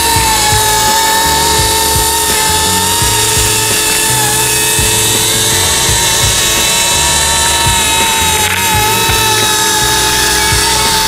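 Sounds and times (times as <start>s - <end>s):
background music: 0.0s - 11.0s
rc helicopter whine: 0.0s - 11.0s.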